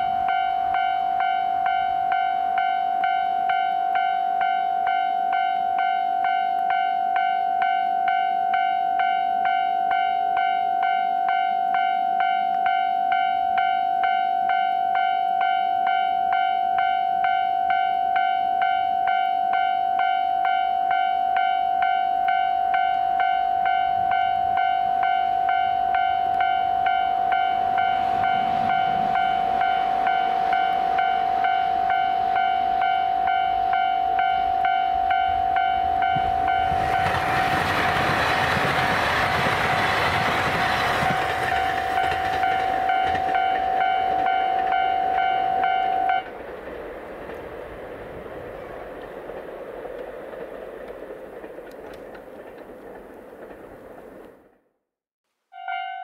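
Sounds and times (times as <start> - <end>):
diesel train rushing past: 0.0 - 16.0, 16.9 - 54.6
level-crossing warning bell: 0.0 - 46.4, 55.5 - 56.0.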